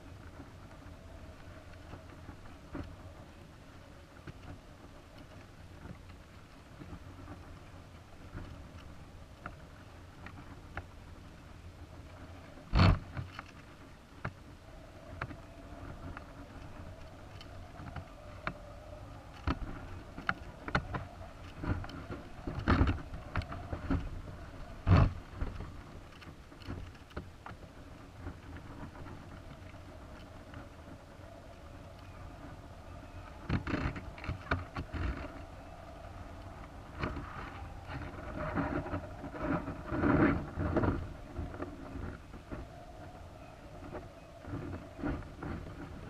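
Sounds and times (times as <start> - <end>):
low steady rumble: 0.0 - 46.0.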